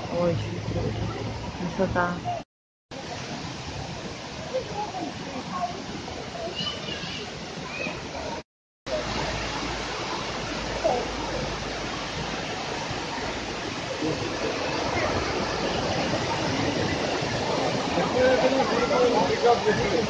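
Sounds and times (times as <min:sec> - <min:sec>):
waterfall rushing: 0:00.0 - 0:20.0
faint voices: 0:03.0 - 0:20.0.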